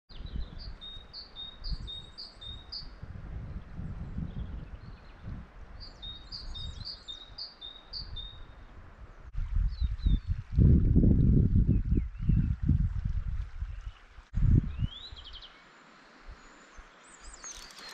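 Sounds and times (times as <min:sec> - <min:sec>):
songbird singing: 0:00.1 - 0:10.4, 0:13.7 - 0:17.9.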